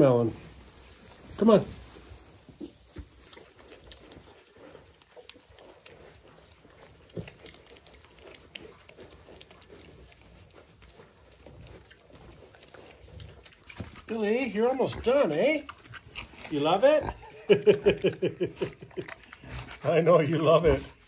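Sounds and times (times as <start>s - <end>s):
rustling straw: 0.0s - 17.2s
piglets chewing and crunching: 0.0s - 21.0s.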